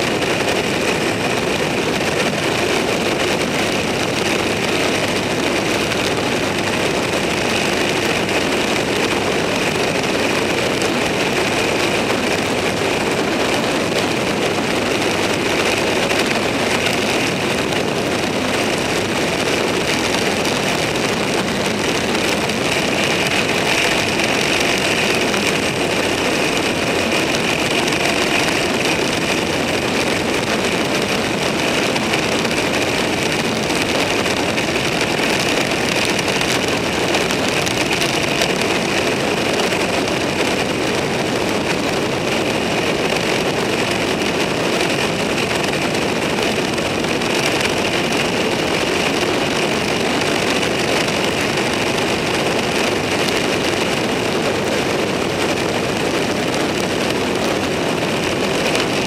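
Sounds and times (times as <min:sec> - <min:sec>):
vehicle cruising on road: 0:00.0 - 0:59.0.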